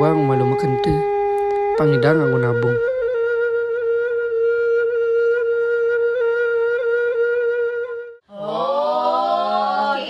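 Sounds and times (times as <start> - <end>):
flute-like long steady note: 0.0 - 9.4.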